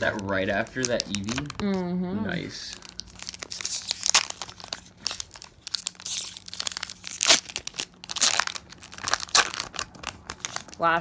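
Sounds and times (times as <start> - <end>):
foil wrapper crinkling: 0.0 - 1.8, 2.4 - 11.0.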